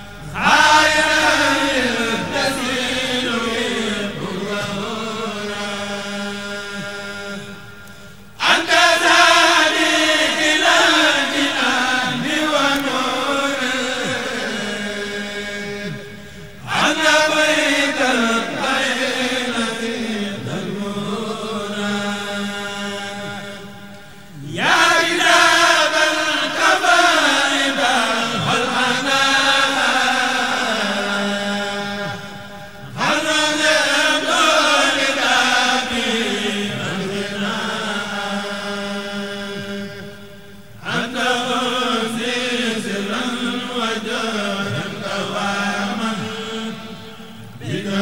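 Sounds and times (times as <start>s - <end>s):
voices chanting: 0.0s - 40.2s, 40.8s - 48.0s.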